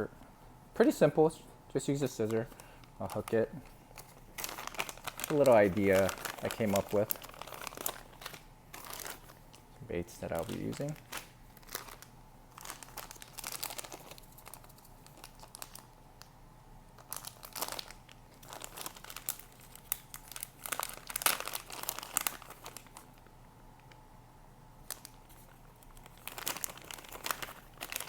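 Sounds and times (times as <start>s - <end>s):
plastic packaging crinkling: 1.8s - 16.0s, 17.0s - 24.0s, 24.8s - 28.0s.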